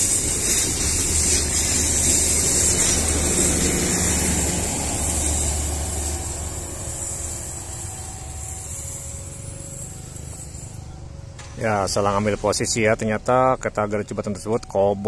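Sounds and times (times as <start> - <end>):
train wheels on rails: 0.0 - 14.8
diesel generator hum: 0.0 - 15.0.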